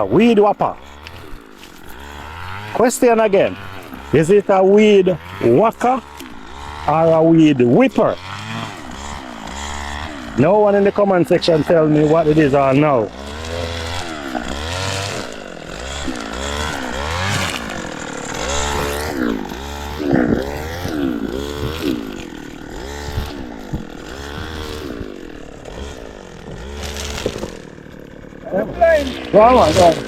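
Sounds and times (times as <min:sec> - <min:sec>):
weed whacker engine revving: 0:00.0 - 0:30.0.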